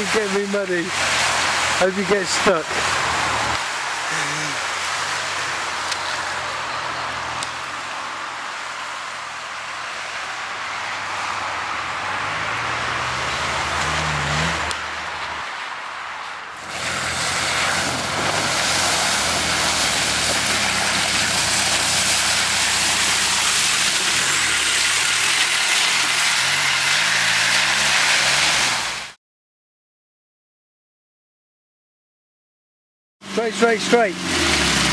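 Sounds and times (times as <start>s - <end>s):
car engine revving: 0.0s - 29.0s, 33.2s - 34.9s
tyres churning mud and water: 0.0s - 29.2s, 33.2s - 34.9s.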